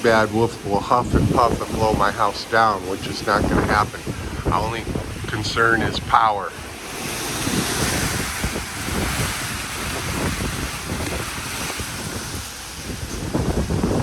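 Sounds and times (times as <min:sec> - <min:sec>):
strong wind gusting: 0:00.0 - 0:14.0
wind buffeting microphone: 0:00.0 - 0:14.0.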